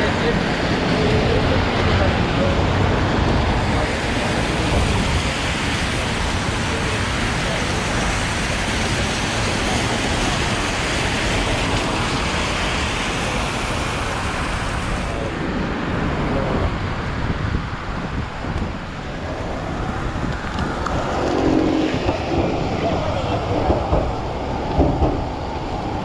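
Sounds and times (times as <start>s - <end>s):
road traffic on wet street: 0.0s - 26.0s
rain hiss: 3.2s - 26.0s.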